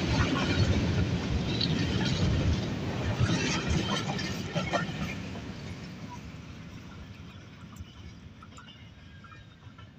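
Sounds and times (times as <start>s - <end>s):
freight train wheels rumbling on rails: 0.0s - 9.9s
wheels clacking on rails: 0.0s - 9.9s.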